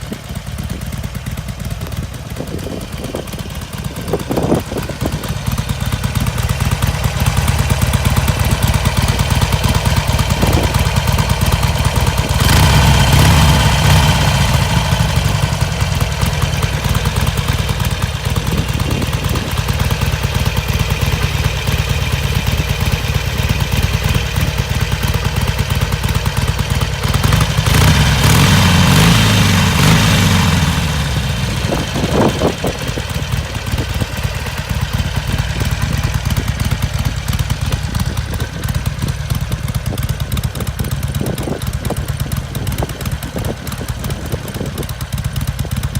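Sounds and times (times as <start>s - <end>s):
motorcycle engine idle rumble: 0.0s - 45.9s.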